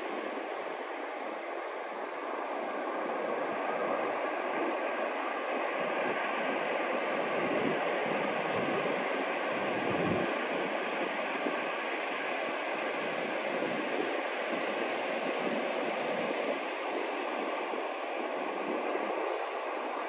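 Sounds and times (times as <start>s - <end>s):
ocean surf on a beach: 0.0s - 20.0s.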